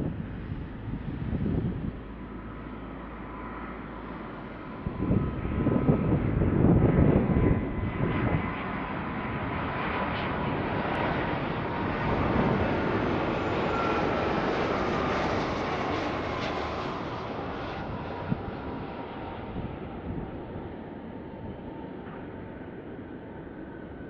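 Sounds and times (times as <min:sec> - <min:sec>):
jet engine whine: 0:00.0 - 0:24.0
low jet rumble: 0:00.0 - 0:24.0.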